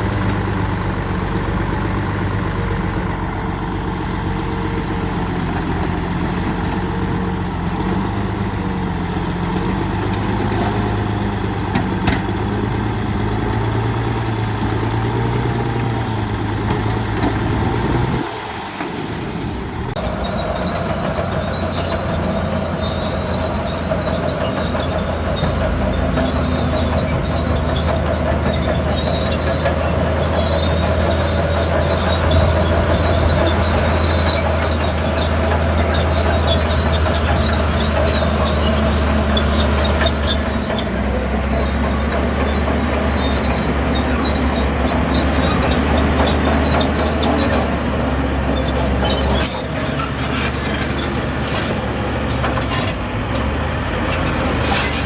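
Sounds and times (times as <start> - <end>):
crawler tracks clanking and squealing: 0.0 - 3.7, 4.6 - 8.3, 9.0 - 55.0
diesel engine running hard: 0.0 - 55.0.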